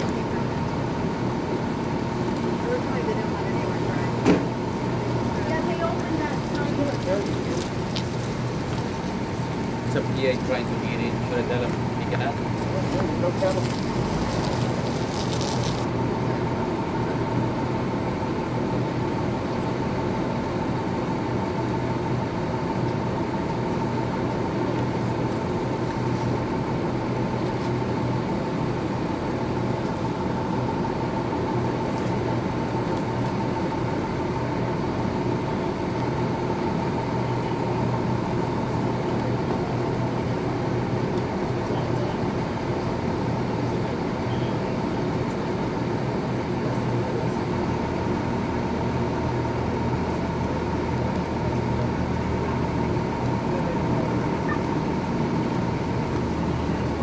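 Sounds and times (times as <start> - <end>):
diesel engines idling: 0.0 - 57.0.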